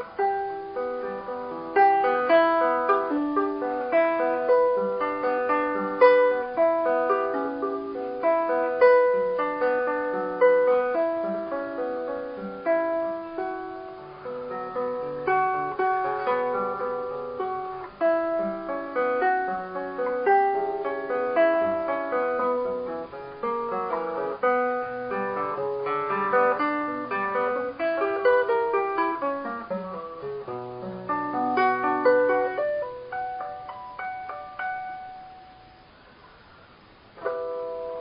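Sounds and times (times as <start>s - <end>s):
classical guitar fingerstyle: 0.0s - 38.0s.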